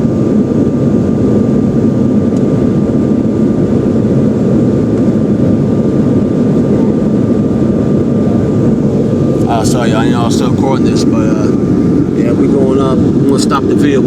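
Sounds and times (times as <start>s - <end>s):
engine and airflow roar: 0.0s - 14.0s
thin steady whine: 0.0s - 14.0s.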